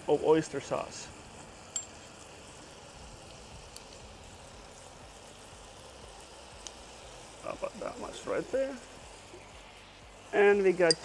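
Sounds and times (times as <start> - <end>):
butter and oil sizzling in a wok: 0.0 - 11.0.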